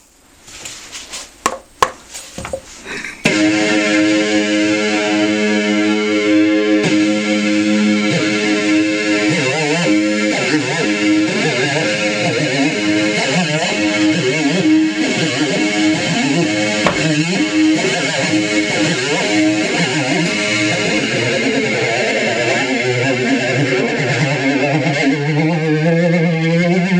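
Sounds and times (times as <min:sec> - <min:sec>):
distorted one-string electric instrument: 0:03.2 - 0:26.9.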